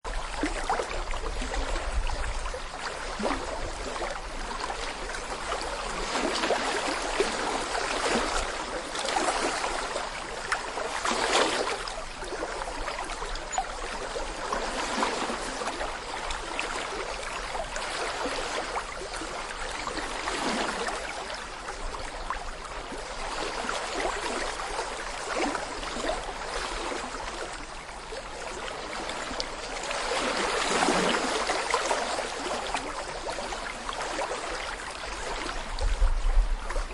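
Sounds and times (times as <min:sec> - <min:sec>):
brook babbling over stones: 0:00.0 - 0:36.9.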